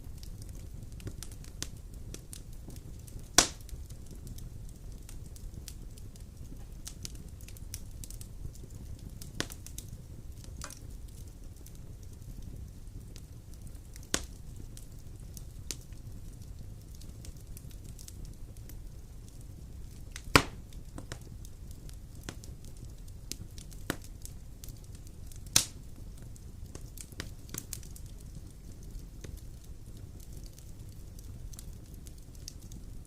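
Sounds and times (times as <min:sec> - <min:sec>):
fire crackling: 0:00.0 - 0:33.0
fire popping: 0:00.0 - 0:33.0.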